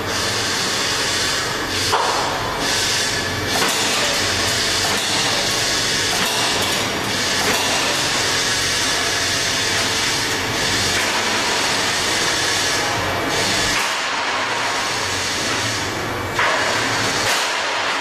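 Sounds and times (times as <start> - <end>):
loud machine noise: 0.0 - 18.0.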